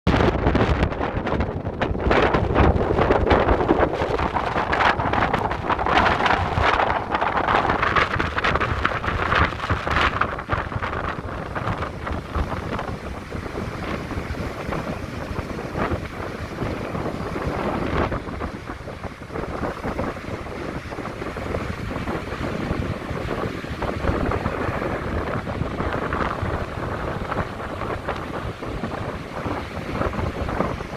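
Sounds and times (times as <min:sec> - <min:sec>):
wind buffeting microphone: 0:00.0 - 0:30.9
surf washing against shore: 0:00.1 - 0:30.9.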